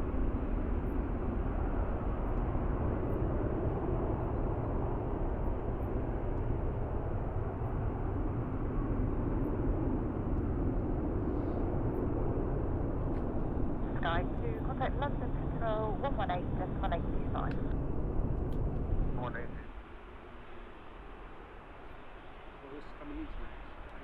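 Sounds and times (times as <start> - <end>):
jet engine noise: 0.0 - 24.0.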